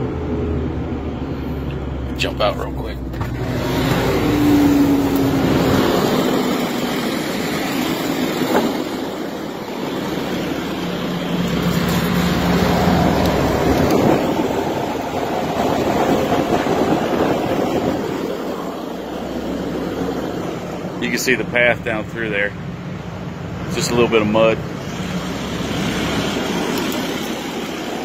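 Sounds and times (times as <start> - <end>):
street sweeper machinery noise: 0.0 - 28.0.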